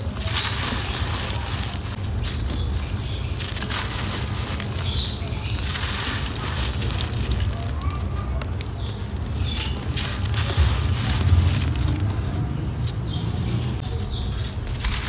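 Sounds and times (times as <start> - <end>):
grit pattering down: 0.0 - 15.0
sand crumbled in hands: 0.0 - 15.0.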